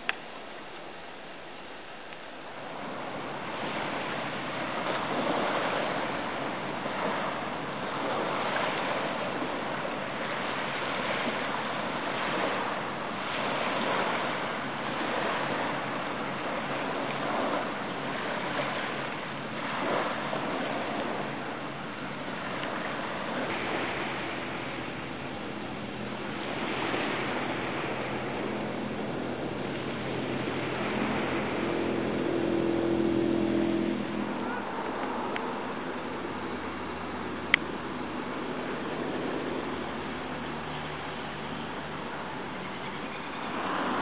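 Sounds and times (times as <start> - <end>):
small waves washing on rocks: 0.0 - 32.9, 34.1 - 44.0.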